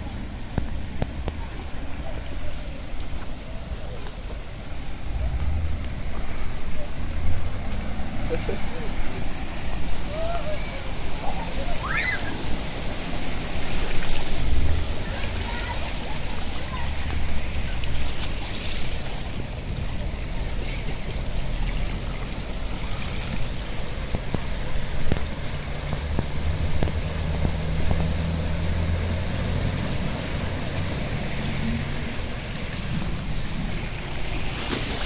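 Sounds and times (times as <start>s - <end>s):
cars driving through water: 0.0s - 35.0s
floodwater lapping: 0.0s - 35.0s
low engine hum: 0.0s - 35.0s.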